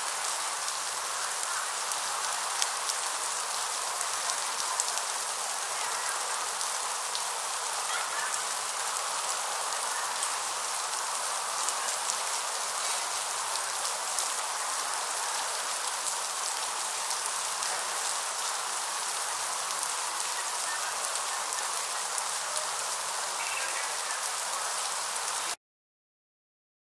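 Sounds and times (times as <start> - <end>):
freezing rain hissing: 0.0 - 25.6.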